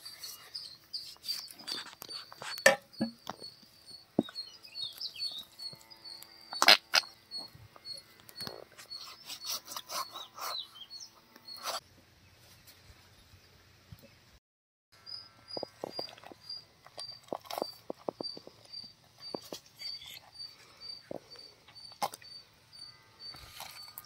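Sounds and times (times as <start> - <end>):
small birds chirping: 0.0 - 14.3, 15.0 - 24.0.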